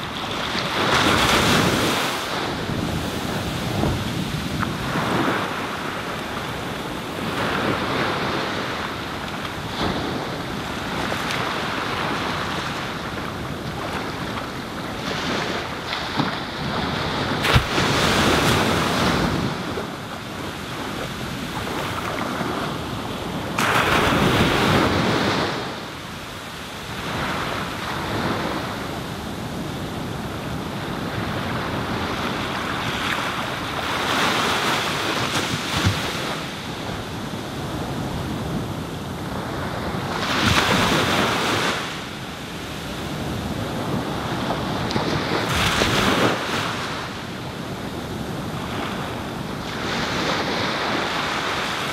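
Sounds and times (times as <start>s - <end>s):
ocean waves breaking on beach: 0.0s - 51.9s.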